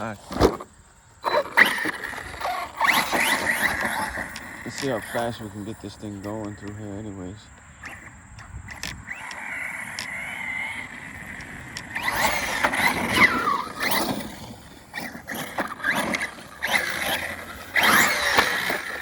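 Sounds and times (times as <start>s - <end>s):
electric motor whining: 0.0s - 19.0s
tyres running over dirt: 0.0s - 19.0s.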